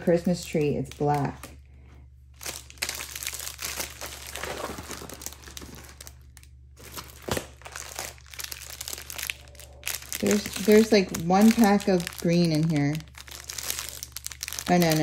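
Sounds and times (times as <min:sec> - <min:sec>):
plastic wrapping crinkling: 0:00.3 - 0:01.6, 0:02.3 - 0:15.0.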